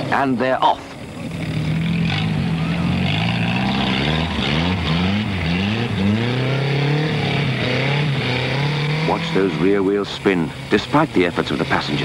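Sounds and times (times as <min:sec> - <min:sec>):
car engine revving hard: 0:01.3 - 0:12.0.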